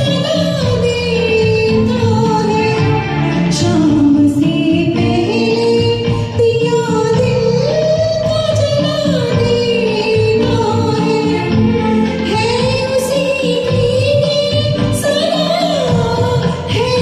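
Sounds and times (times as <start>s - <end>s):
karaoke backing track: 0.0s - 17.0s
woman singing: 0.0s - 17.0s.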